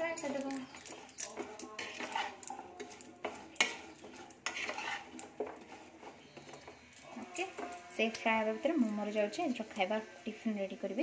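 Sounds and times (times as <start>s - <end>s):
wooden spatula scraping a pan: 0.0s - 11.0s.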